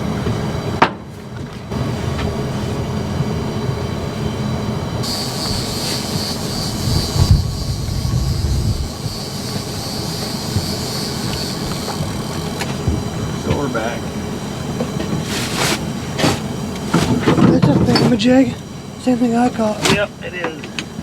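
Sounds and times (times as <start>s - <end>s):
boat engine rumble: 0.0s - 21.0s
high whine: 1.7s - 21.0s.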